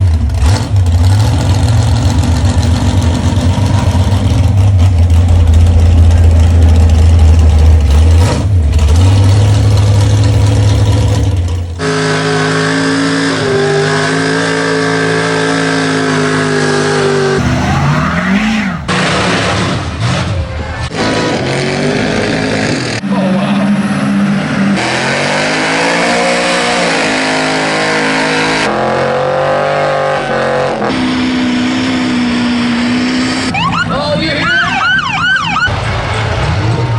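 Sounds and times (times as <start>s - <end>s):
truck engine rumbling and revving: 0.0s - 36.9s.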